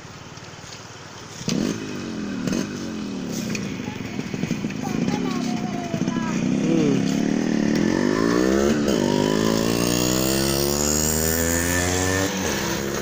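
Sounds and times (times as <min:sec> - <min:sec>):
motorcycle engine revving: 0:01.3 - 0:13.0.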